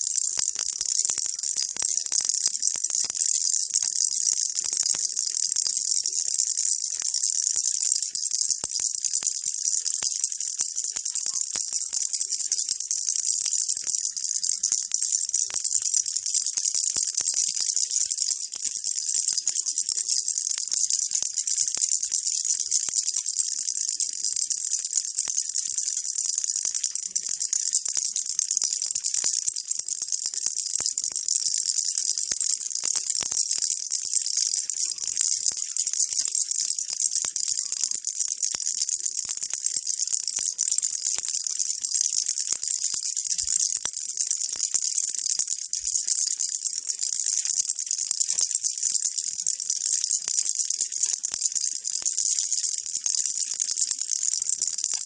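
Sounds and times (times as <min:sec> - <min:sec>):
baby rattle shaking: 0:00.0 - 0:55.0.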